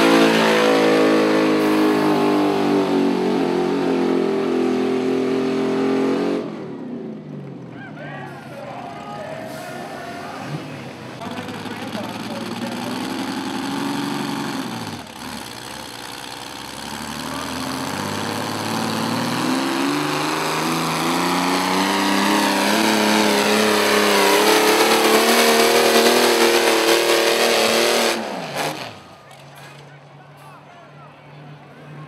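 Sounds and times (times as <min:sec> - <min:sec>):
engine straining under load: 0:00.0 - 0:30.7.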